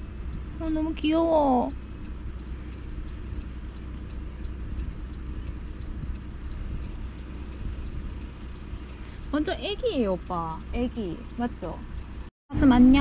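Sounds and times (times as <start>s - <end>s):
car road rumble: 0.0s - 13.0s.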